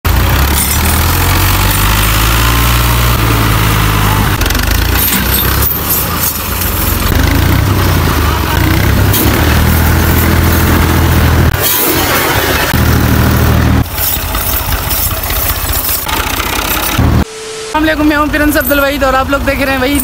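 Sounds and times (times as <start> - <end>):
diesel tractor engines under load: 0.0 - 20.0.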